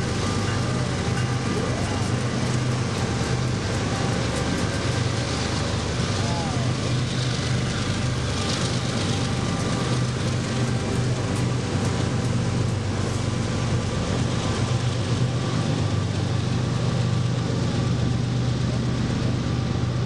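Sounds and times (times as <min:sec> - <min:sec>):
traffic noise: 0:00.0 - 0:19.9
low engine hum: 0:00.0 - 0:20.0.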